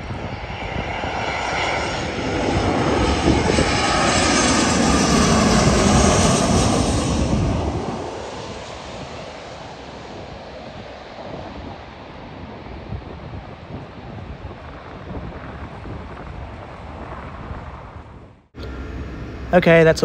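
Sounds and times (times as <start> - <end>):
jet airliner roaring overhead: 0.0 - 20.0.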